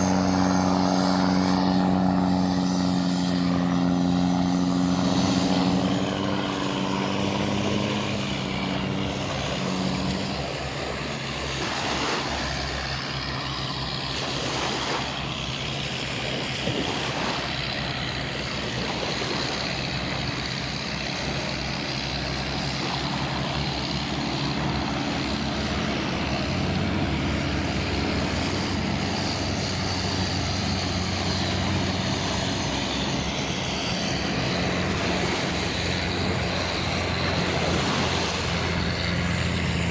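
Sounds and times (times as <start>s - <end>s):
continuous rushing noise: 0.0s - 39.9s
engine drone: 0.0s - 39.9s
low hum: 0.0s - 39.9s.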